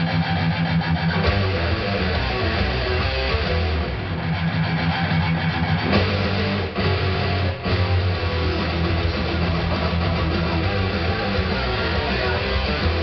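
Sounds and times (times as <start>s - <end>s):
electric guitar metal riff: 0.0s - 13.0s.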